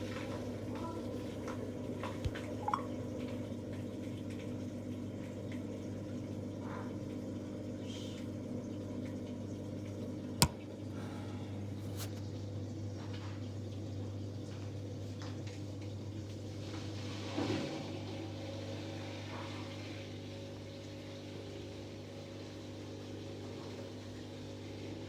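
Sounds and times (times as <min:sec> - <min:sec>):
washing machine spinning hum: 0:00.0 - 0:25.0.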